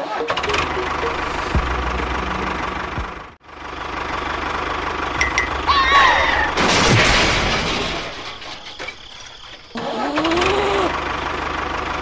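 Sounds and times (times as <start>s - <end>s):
engine chugging: 0.0s - 12.0s.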